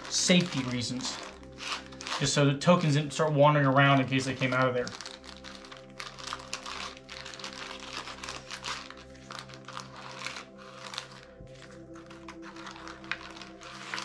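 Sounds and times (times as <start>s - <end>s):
plastic baggies crinkling: 0.0s - 14.0s
soft background music: 0.0s - 14.0s.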